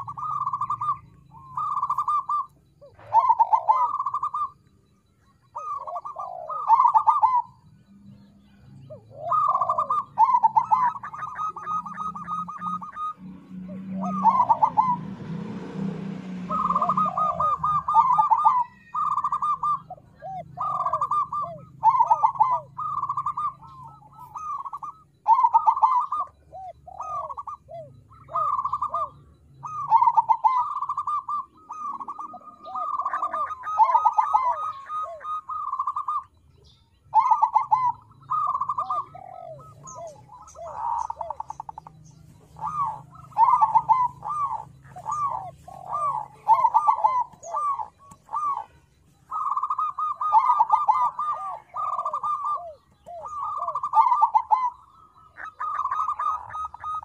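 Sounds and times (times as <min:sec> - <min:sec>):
dove rolling coos: 0:00.0 - 0:57.0.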